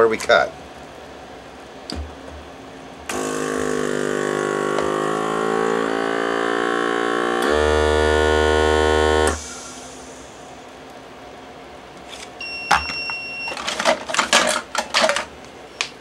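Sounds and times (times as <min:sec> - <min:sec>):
heat sealer machine hum: 0:00.2 - 0:16.0.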